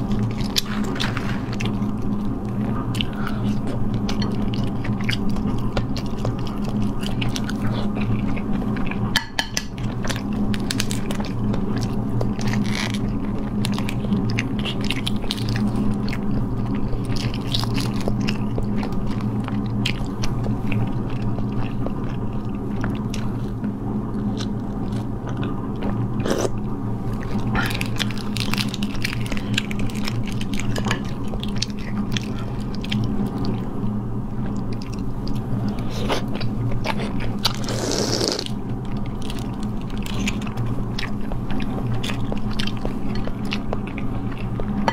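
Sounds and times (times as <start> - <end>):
biting and chewing: 0.0 - 44.9
low hum: 0.0 - 44.9.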